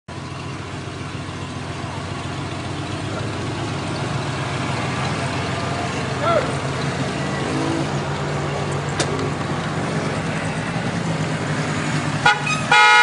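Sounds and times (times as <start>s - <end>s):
vehicle engine idling: 0.1s - 13.0s.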